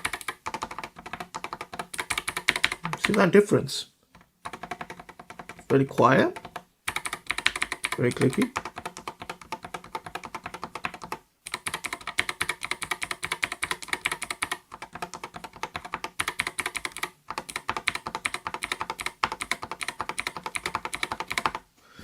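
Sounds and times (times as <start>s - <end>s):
mechanical keyboard typing: 0.0s - 3.3s, 4.1s - 21.6s.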